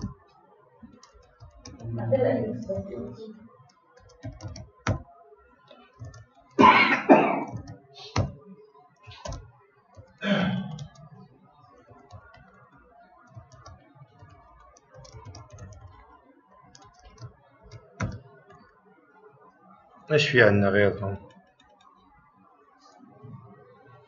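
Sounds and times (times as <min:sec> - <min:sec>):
computer keyboard typing: 0:00.0 - 0:05.1, 0:05.7 - 0:18.8, 0:20.5 - 0:22.0.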